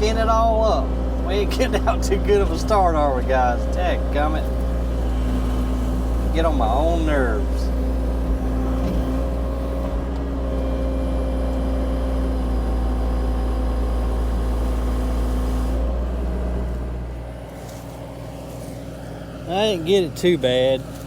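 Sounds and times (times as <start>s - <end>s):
excavator diesel engine: 0.0s - 21.0s.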